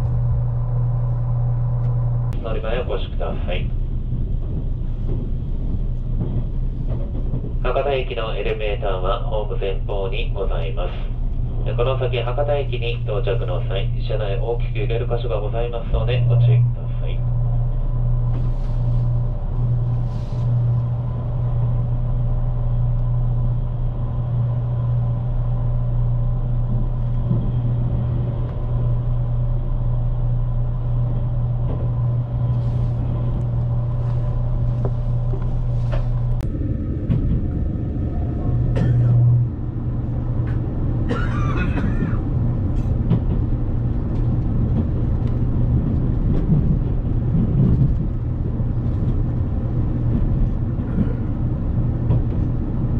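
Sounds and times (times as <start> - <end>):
train interior hum and rumble: 0.0 - 52.9.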